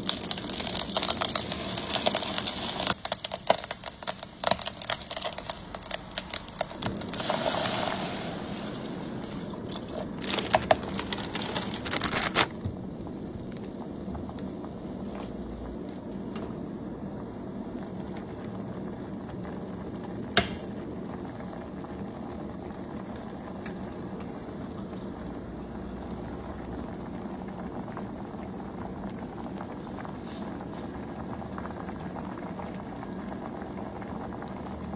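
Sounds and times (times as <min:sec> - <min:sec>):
noodles boiling and bubbling: 0:00.0 - 0:34.9.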